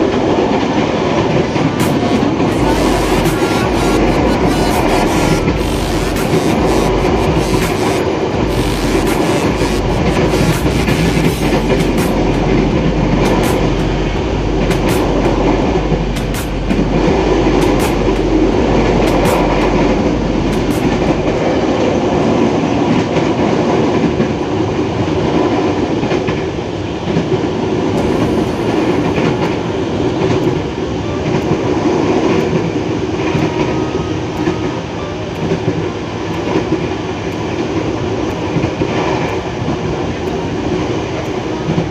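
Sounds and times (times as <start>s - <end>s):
train wheels and motors rumbling: 0.0s - 34.6s.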